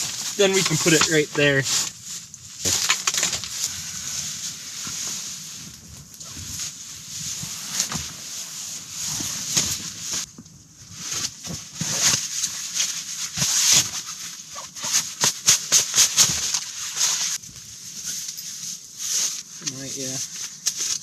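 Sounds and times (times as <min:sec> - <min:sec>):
tent fabric and bedding rustling: 0:00.0 - 0:21.0.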